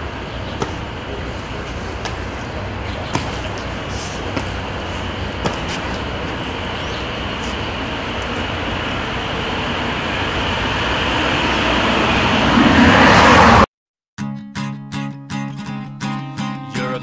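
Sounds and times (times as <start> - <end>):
car driving past: 0.0 - 13.7
street traffic: 0.0 - 13.7.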